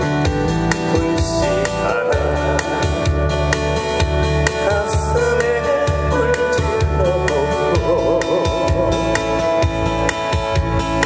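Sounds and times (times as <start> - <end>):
backing track with bass and guitar: 0.0 - 11.0
man singing into a microphone: 0.7 - 9.7.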